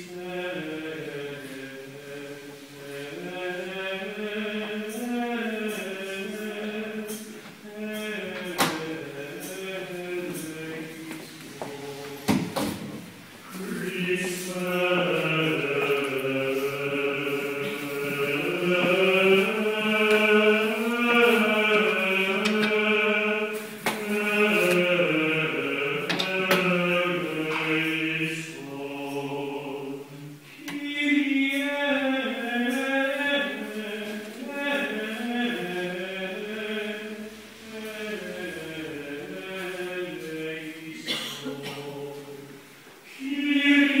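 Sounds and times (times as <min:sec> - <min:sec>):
liturgical chant singing: 0:00.0 - 0:44.0.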